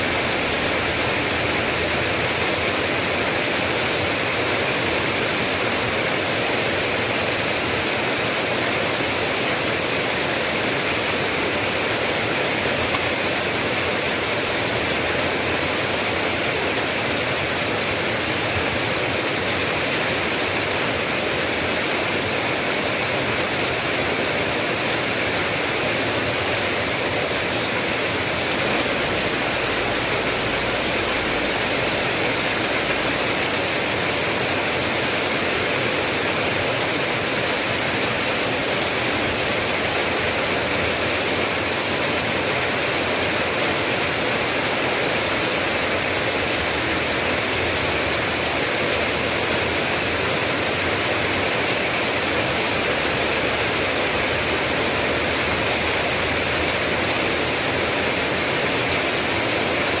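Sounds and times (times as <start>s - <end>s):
heavy rain hiss: 0.0s - 60.0s.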